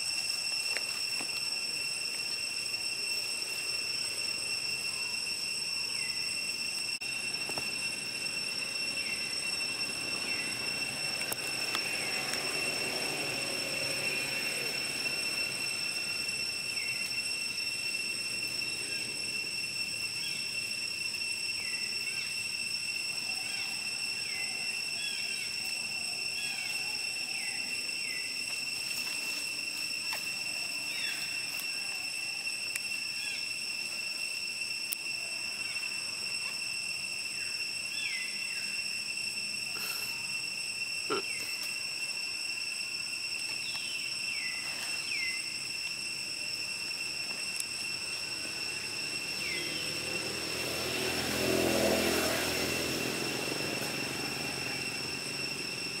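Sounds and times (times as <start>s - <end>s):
falling chirped calls: 0.0s - 56.0s
insects droning: 0.0s - 56.0s.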